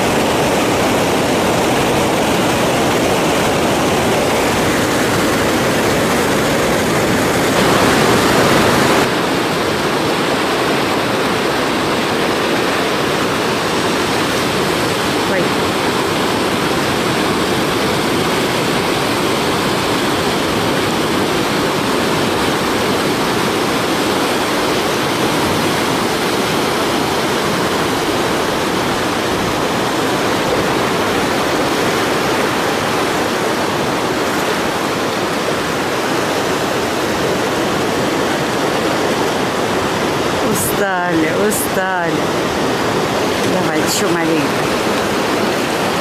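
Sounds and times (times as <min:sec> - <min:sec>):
whitewater rapids rushing: 0:00.0 - 0:46.0.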